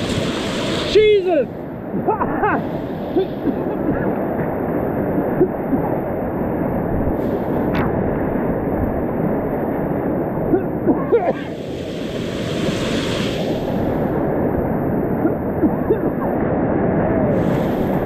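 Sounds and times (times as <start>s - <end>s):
whitewater rushing and splashing: 0.0s - 18.0s
wind buffeting microphone: 0.0s - 18.0s.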